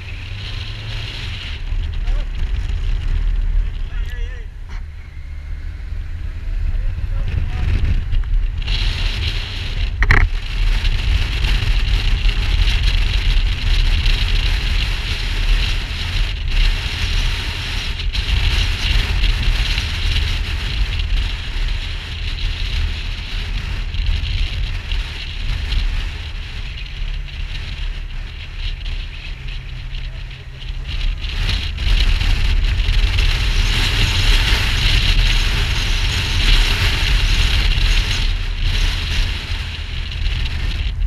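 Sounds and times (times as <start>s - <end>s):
motorcycle running: 0.0s - 41.0s
wind rushing over microphone: 0.0s - 41.0s.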